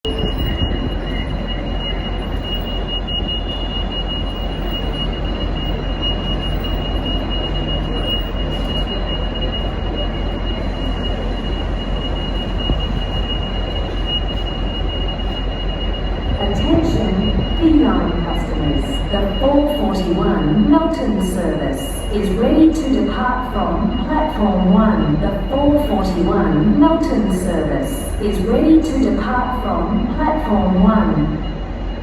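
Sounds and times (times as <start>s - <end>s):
diesel locomotive idling: 0.0s - 32.0s
high-pitched whine: 0.0s - 32.0s.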